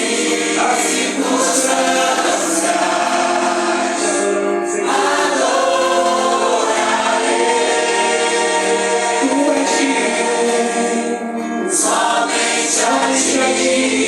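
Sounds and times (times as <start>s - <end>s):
congregation singing worship song: 0.0s - 14.0s
instrumental accompaniment: 0.0s - 14.0s.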